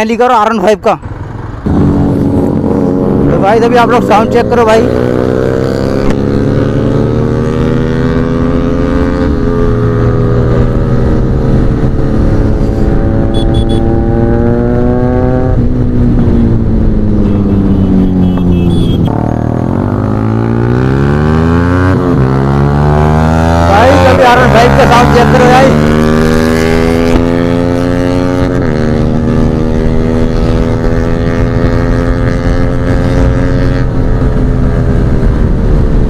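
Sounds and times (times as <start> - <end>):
motorcycle engines revving: 0.0 - 36.0
rush of riding wind: 0.0 - 36.0.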